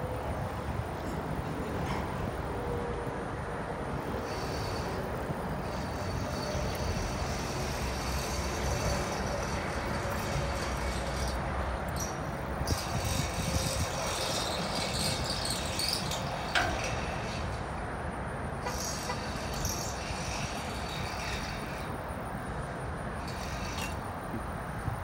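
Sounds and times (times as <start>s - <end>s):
freight car wheels rumbling: 0.0s - 22.6s
insects chirping: 4.0s - 25.0s.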